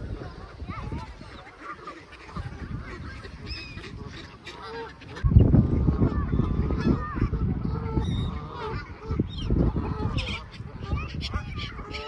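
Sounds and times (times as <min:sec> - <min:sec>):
geese and ducks honking: 0:00.0 - 0:12.0.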